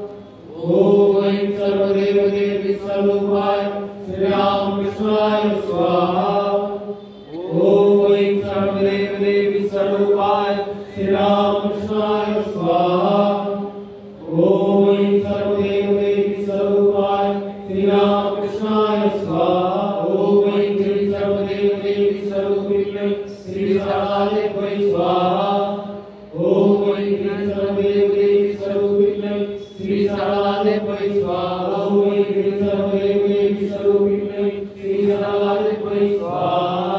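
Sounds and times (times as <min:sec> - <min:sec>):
mantras chanted on held notes: 0:00.0 - 0:36.9.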